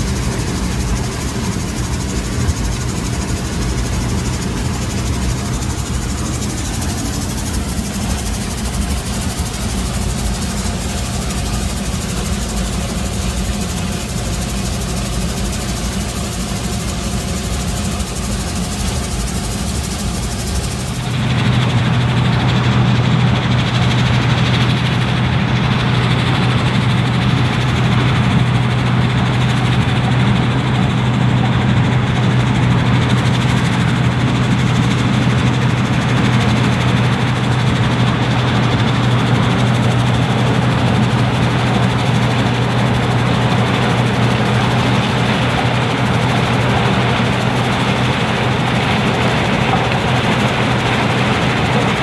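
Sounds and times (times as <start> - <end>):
combine harvester humming: 0.0 - 52.0.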